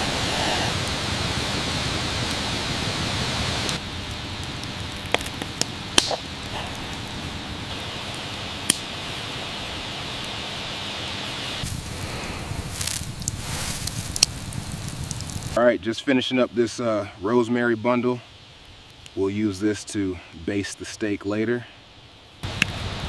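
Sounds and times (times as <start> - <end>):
fire crackles: 0.0 - 23.0
fire hissing: 0.0 - 23.0.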